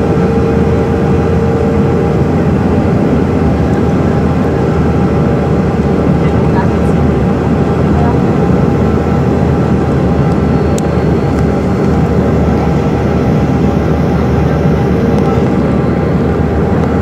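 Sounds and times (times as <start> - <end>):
airliner cabin roar: 0.0 - 17.0
steady hum: 0.0 - 17.0.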